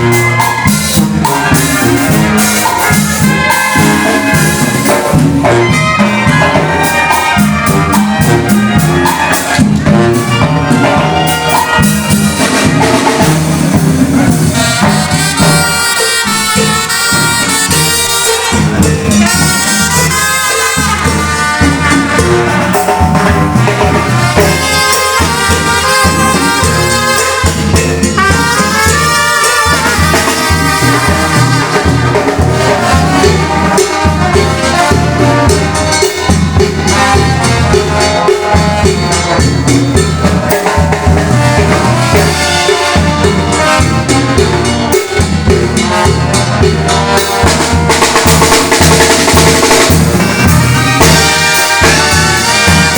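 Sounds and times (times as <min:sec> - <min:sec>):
bass and drum beat: 0:00.0 - 0:52.9
trumpets and trombones: 0:00.0 - 0:52.9.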